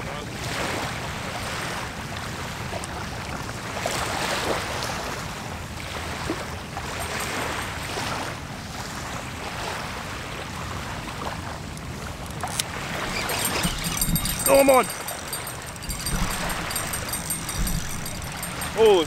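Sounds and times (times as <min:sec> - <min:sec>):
small waves washing ashore: 0:00.0 - 0:19.0.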